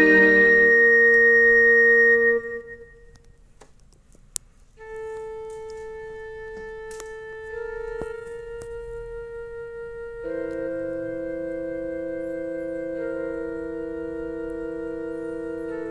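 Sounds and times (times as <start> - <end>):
keyboard held chord: 0.0 - 2.8, 4.8 - 15.9
slow wind-instrument melody: 0.0 - 3.3, 4.8 - 15.9.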